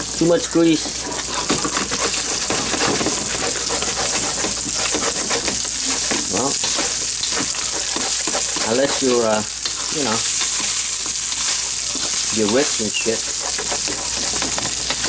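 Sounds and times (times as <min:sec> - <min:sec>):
meat sizzling in oil: 0:00.0 - 0:15.0
stirring scrapes and clicks: 0:00.6 - 0:15.0.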